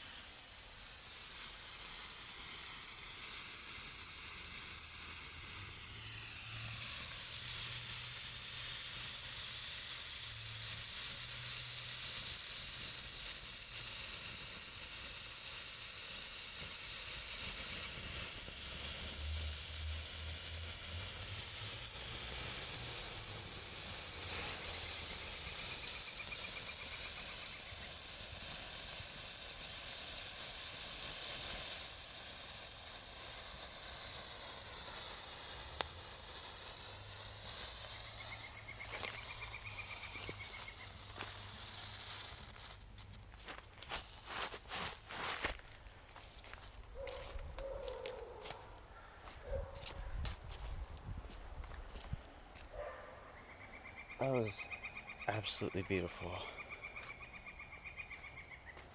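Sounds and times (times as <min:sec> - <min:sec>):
sparkler fuse hissing: 0:00.0 - 0:52.8, 0:54.2 - 0:58.9.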